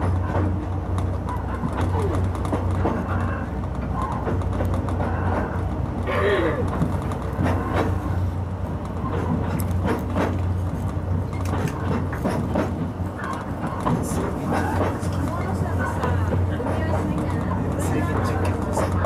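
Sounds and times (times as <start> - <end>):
train low hum: 0.0 - 19.0
wheels clicking and knocking on rails: 0.0 - 19.0.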